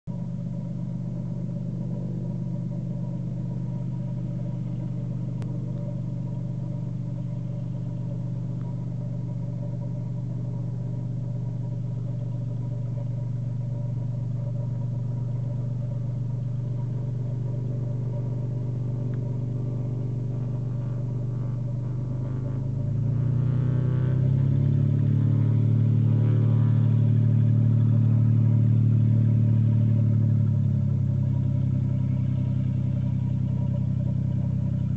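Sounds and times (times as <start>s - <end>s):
propeller plane engine drone: 0.0s - 34.9s.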